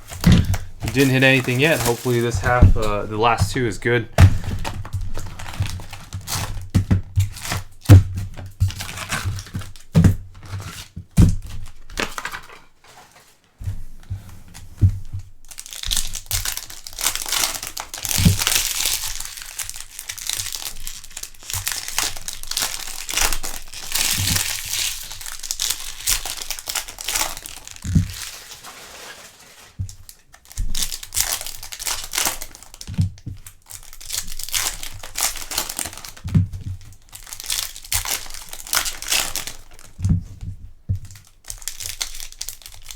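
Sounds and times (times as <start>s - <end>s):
foil wrappers tearing and crinkling: 0.0s - 13.4s, 15.4s - 40.0s, 41.1s - 42.9s.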